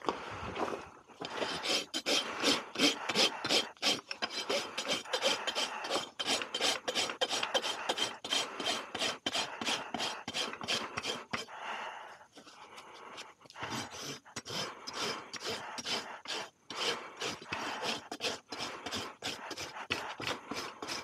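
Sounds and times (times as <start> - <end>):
rasp scraping a hoof: 1.2 - 11.5, 12.4 - 21.0.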